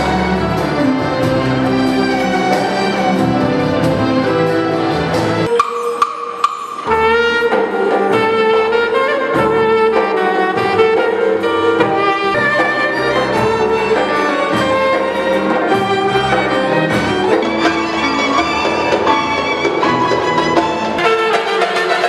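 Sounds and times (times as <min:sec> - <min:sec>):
clarinet playing lead: 0:00.0 - 0:22.0
drums: 0:00.0 - 0:22.0
piano: 0:00.0 - 0:22.0
string section: 0:00.0 - 0:22.0.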